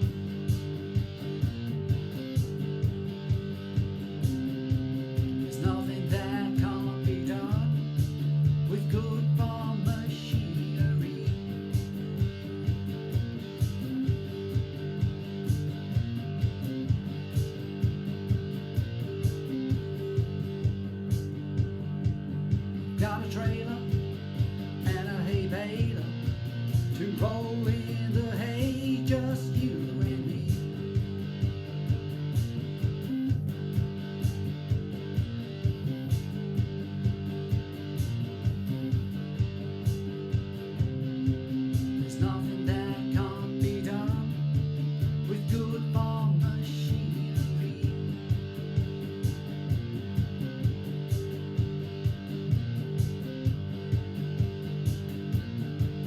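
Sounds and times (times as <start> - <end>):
guitar lead runs: 0.0 - 56.0
strummed guitar chords: 0.0 - 56.0.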